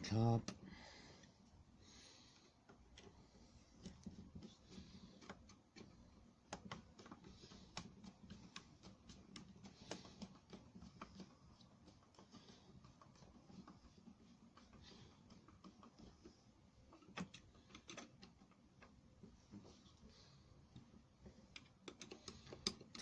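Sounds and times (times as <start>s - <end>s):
low background hum: 0.0s - 23.0s
small clicks and taps: 2.3s - 23.0s.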